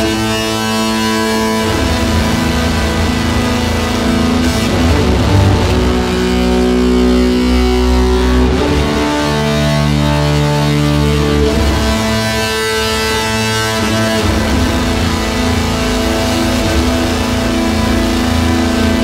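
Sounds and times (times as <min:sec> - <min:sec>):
held chords over deep bass: 0:00.0 - 0:19.0.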